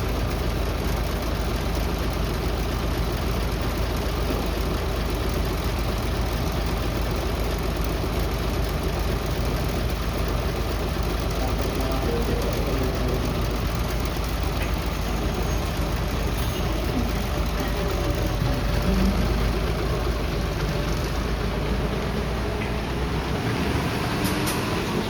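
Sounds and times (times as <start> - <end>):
bus engine idling: 0.0 - 25.0.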